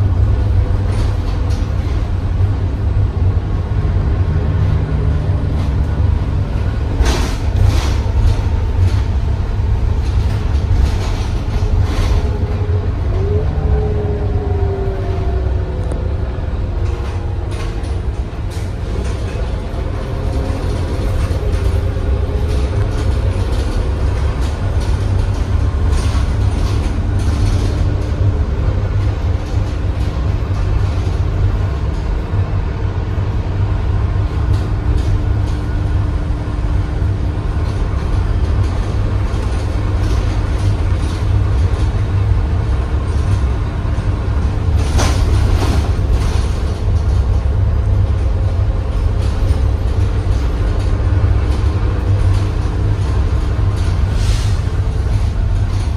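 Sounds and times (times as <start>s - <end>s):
bus body rattling and clunking: 0.0s - 55.9s
bus engine and road noise: 0.0s - 55.9s.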